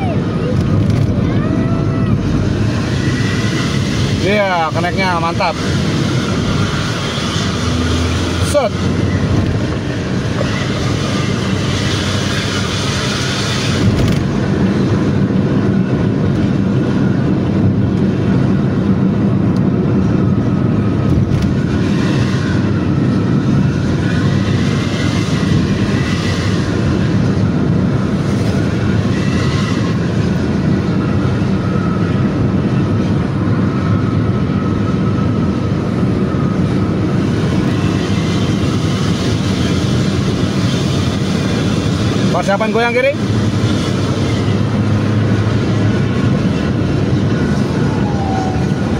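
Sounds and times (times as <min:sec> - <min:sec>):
bus engine and exhaust: 0:00.0 - 0:48.9
car road noise: 0:00.0 - 0:48.9
faint engine whine: 0:00.0 - 0:48.9.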